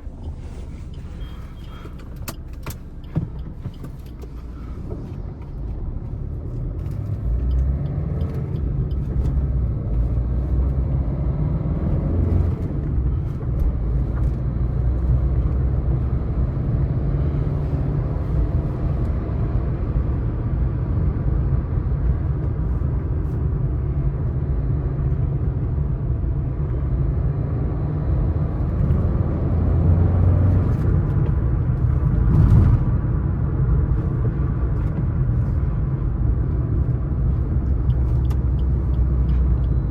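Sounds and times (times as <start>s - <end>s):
diesel car engine droning: 0.0s - 39.9s
road noise: 0.0s - 39.9s.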